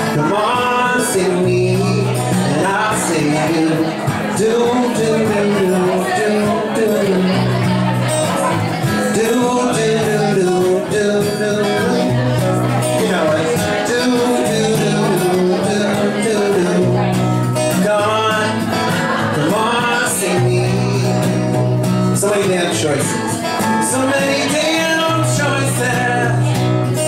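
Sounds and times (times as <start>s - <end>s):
acoustic guitar strummed: 0.0s - 27.0s
man singing: 0.0s - 27.0s.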